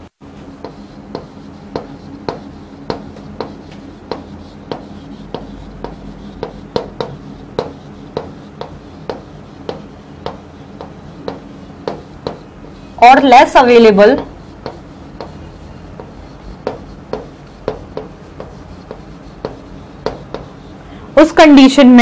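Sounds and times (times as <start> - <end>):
chalk tapping and scraping on chalkboard: 0.0 - 21.7.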